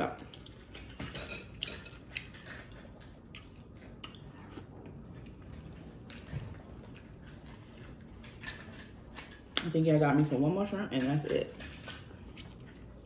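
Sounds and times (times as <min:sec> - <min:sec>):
chewing: 0:00.2 - 0:09.6, 0:11.5 - 0:13.0.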